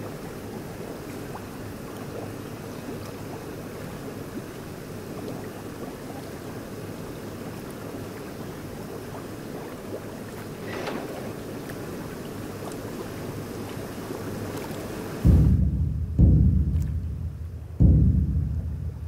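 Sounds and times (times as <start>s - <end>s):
water splashing into tank: 0.0s - 15.4s.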